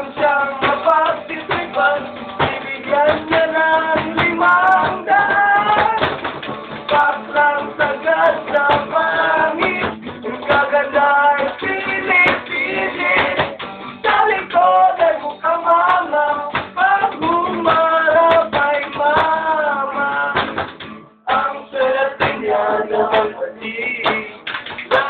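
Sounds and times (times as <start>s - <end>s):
young men singing: 0.0s - 6.2s, 6.9s - 20.6s, 21.3s - 25.0s
strummed acoustic guitar: 0.0s - 25.0s.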